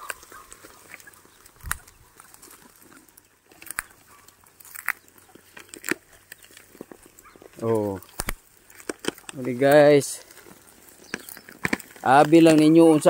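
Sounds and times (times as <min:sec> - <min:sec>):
animal tearing and chewing grass: 0:00.0 - 0:13.0.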